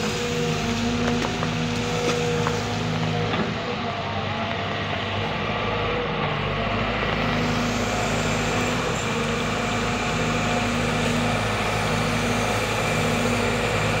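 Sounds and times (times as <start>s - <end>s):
excavator diesel engine rumbling: 0.0s - 14.0s.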